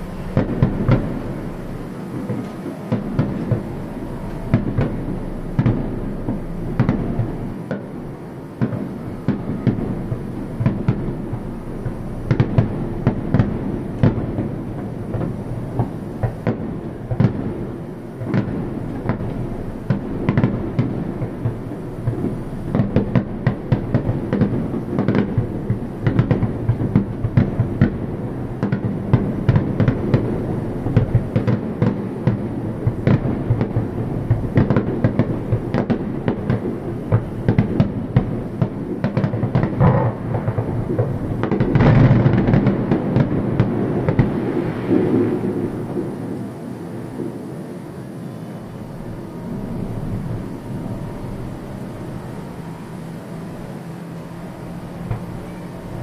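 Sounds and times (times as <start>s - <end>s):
firework shells bursting: 0.0s - 46.5s.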